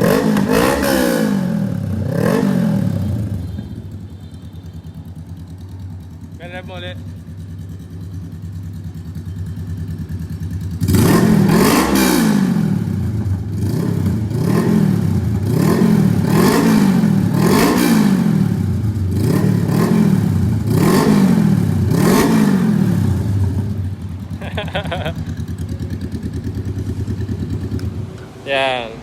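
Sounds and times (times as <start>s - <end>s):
motorcycle engine revving: 0.0s - 4.2s, 5.0s - 29.0s.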